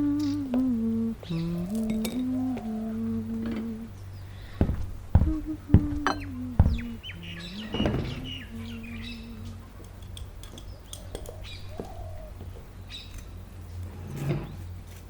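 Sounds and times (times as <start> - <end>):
small birds chirping: 0.0 - 13.9
steady low hum: 0.0 - 15.0.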